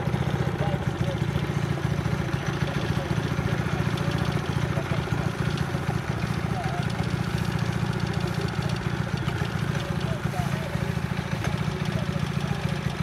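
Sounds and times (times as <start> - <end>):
go-kart engine idling: 0.0 - 13.0.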